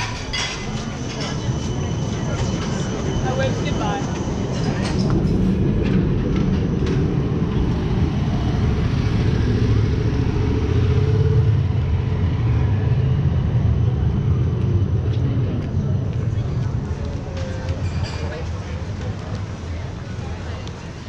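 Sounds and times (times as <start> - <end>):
tram rumbling: 0.0 - 21.0.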